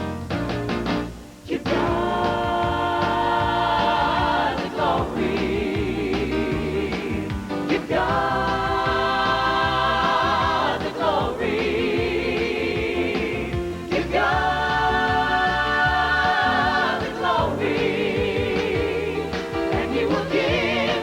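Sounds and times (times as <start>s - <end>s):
instrumental backing: 0.0s - 21.0s
vocal group singing harmony: 1.4s - 21.0s.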